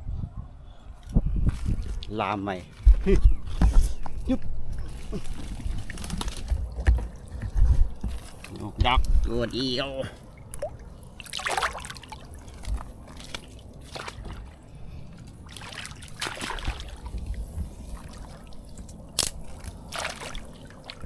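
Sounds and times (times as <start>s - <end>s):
water sloshing and trickling: 1.0s - 21.0s.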